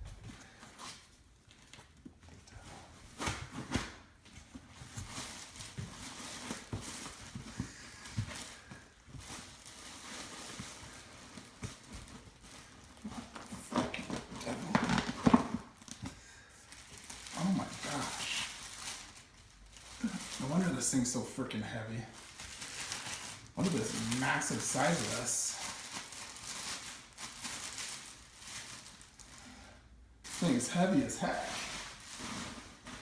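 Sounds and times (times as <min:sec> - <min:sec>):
rustling packaging: 0:00.2 - 0:33.0.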